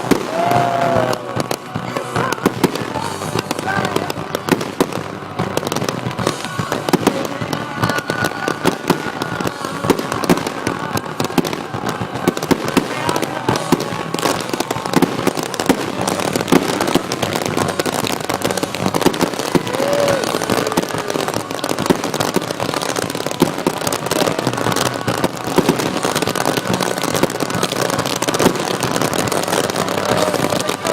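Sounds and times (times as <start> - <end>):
faint voices: 0.0 - 30.9
firecrackers crackling and popping: 0.0 - 30.9.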